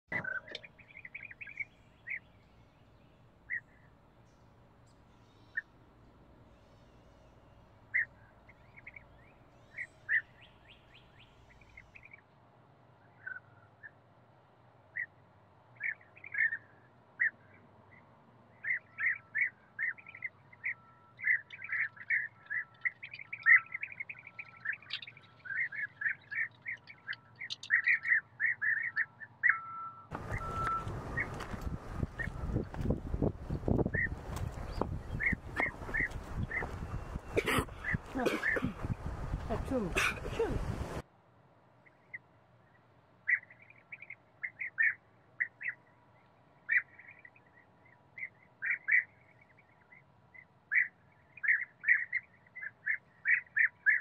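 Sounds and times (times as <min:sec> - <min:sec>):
small birds chirping and twittering: 0:00.1 - 0:12.3, 0:14.9 - 0:41.0, 0:41.8 - 0:54.0.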